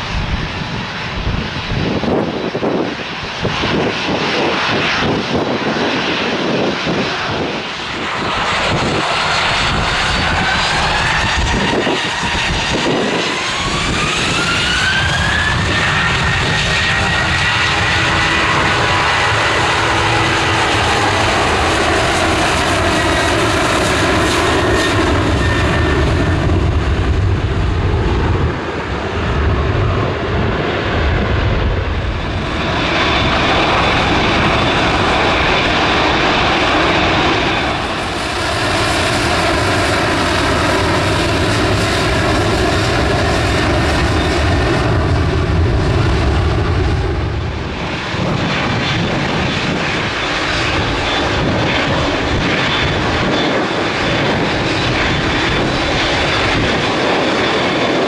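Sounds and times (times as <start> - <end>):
jet engines whining: 0.0 - 58.0
wind buffeting microphone: 0.0 - 58.0.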